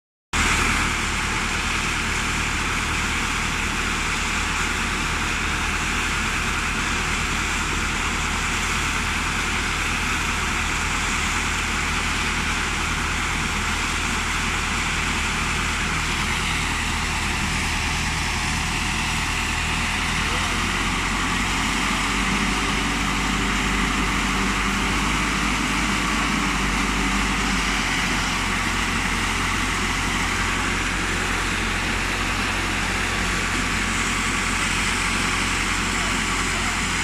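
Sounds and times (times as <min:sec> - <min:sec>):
diesel truck engine running: 0:00.3 - 0:37.0
concrete pouring down chute: 0:00.4 - 0:37.0.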